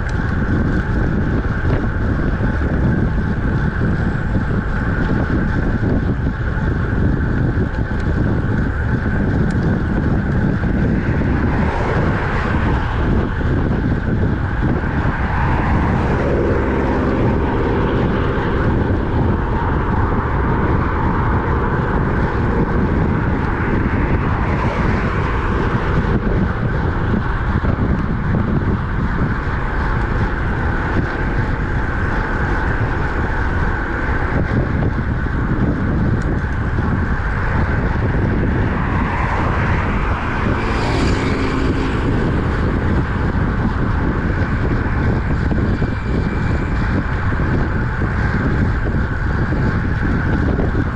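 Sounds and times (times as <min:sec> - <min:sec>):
passing vehicle engine hum: 0:00.0 - 0:50.9
road noise from bike: 0:00.0 - 0:50.9
wind rush on microphone: 0:00.0 - 0:50.9.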